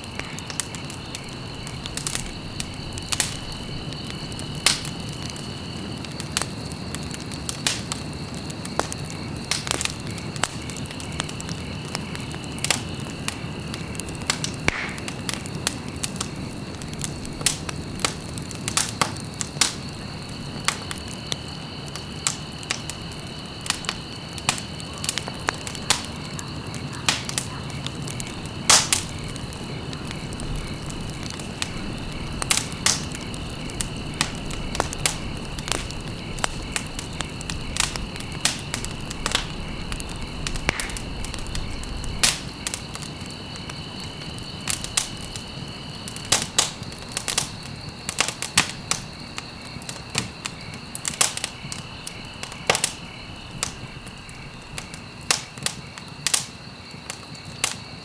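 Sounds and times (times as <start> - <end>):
low rumble of flame: 0.0 - 57.8
wood fire crackling and popping: 0.0 - 58.0.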